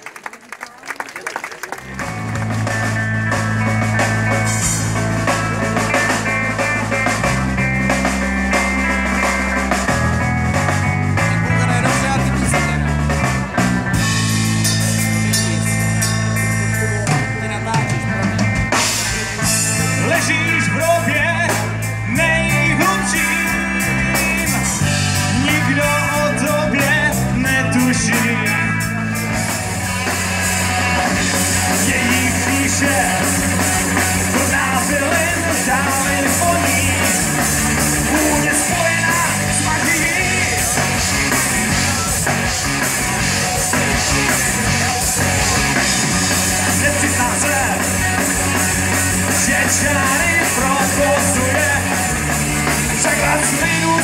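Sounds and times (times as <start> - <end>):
electric guitars: 1.5 - 54.0
bass guitar: 1.7 - 54.0
drum kit: 1.8 - 54.0.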